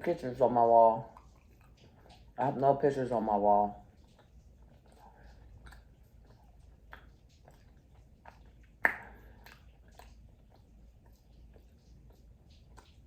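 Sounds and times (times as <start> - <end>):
chewing and crunching fried food: 0.0 - 13.0.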